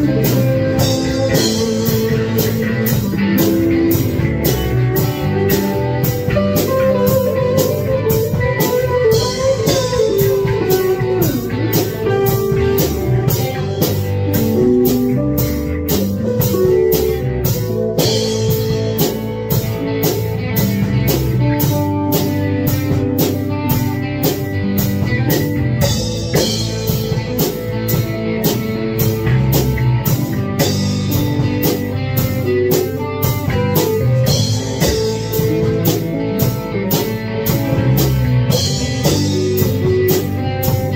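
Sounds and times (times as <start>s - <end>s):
drum kit cymbal beat: 0.0s - 40.9s
electric guitar rock blues jam: 0.0s - 40.9s.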